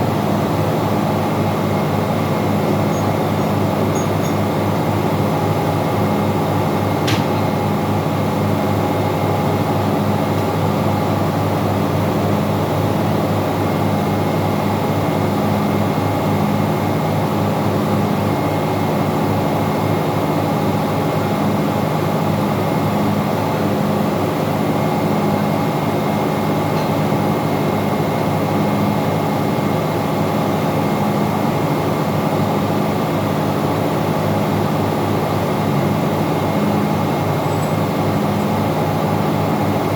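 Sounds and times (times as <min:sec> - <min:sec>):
engine room machinery droning: 0:00.0 - 0:39.9.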